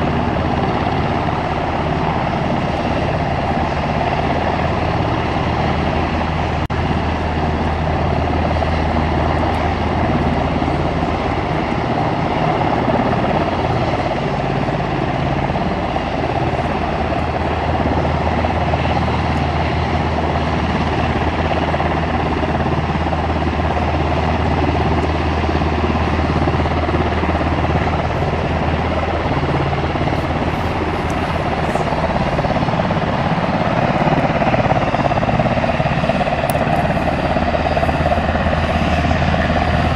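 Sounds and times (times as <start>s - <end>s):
helicopter engine drone and whine: 0.0s - 39.9s.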